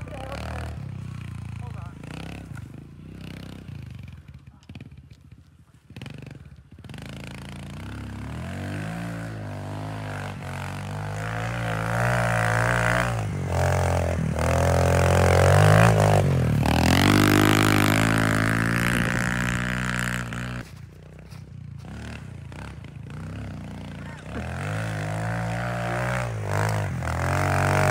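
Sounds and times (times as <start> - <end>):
motorbike engine revving hard: 0.0 - 5.0, 5.9 - 20.7, 21.8 - 27.9.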